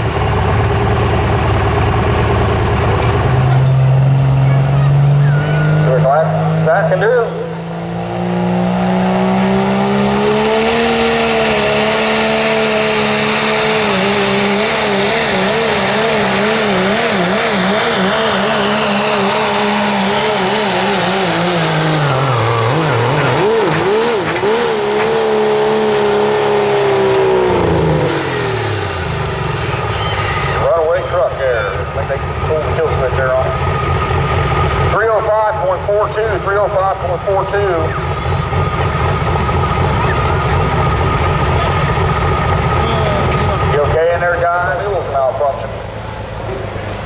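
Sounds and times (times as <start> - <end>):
diesel truck engine at full throttle: 0.0 - 47.0.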